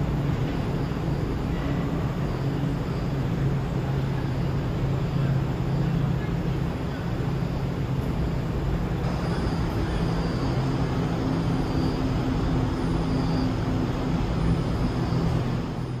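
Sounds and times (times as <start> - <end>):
faint high whine: 0.0 - 16.0
subway train hum and rumble: 0.0 - 16.0.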